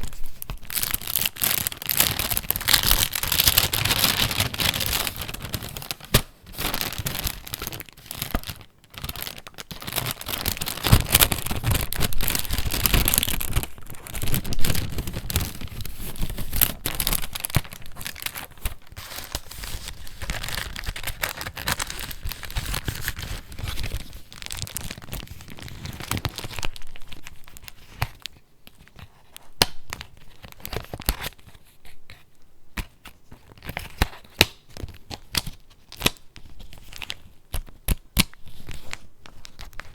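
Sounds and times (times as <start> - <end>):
paper pages crinkling and rustling: 0.0 - 39.9.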